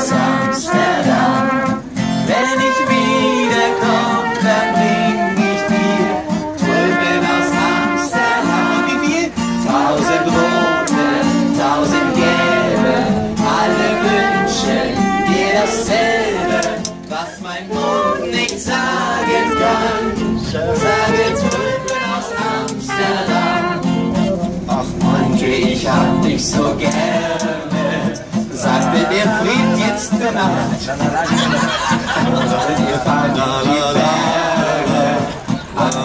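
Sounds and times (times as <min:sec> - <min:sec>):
person singing: 0:00.0 - 0:30.8
acoustic guitar strumming: 0:00.0 - 0:36.0.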